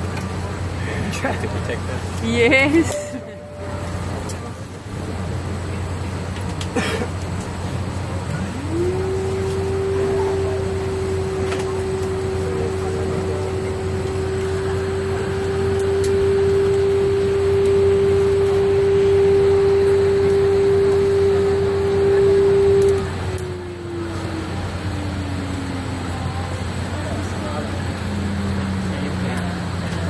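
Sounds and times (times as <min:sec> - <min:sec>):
aircraft mechanical whine: 0:00.0 - 0:30.0.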